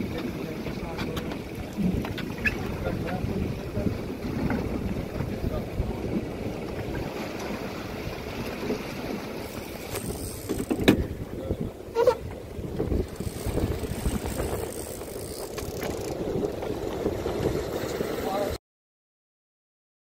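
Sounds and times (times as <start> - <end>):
outboard motors rumbling: 0.0 - 18.6.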